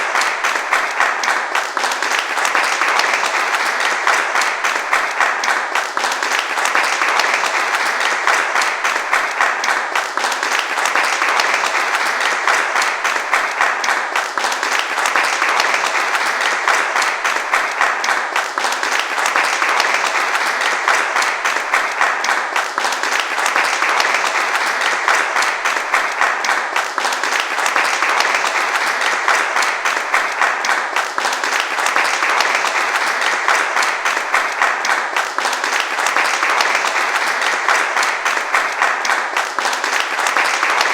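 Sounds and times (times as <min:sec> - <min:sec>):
crowd applauding: 0:00.0 - 0:40.9.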